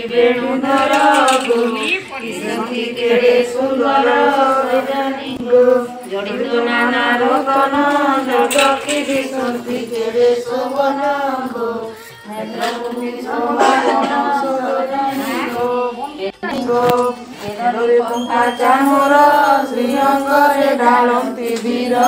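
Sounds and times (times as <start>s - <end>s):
women chanting a hymn: 0.0s - 22.0s.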